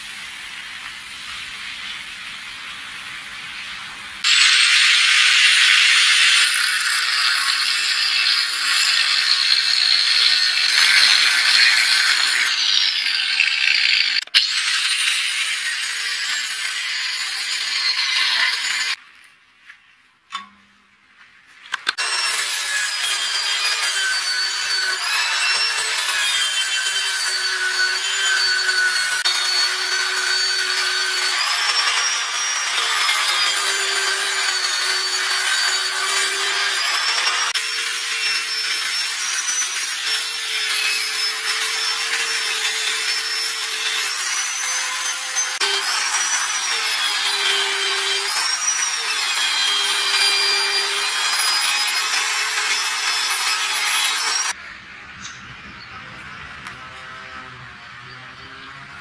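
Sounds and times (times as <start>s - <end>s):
sanding disc grinding steel: 3.6s - 19.0s, 21.9s - 54.7s.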